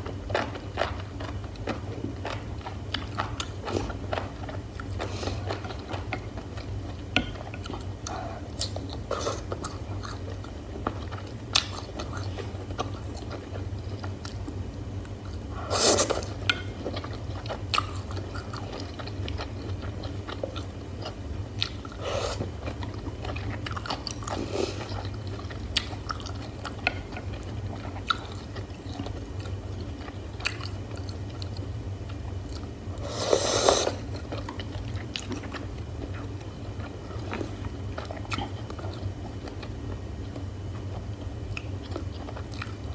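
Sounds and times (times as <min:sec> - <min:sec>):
chewing food: 0:00.0 - 0:42.9
steady low hum: 0:00.0 - 0:42.9.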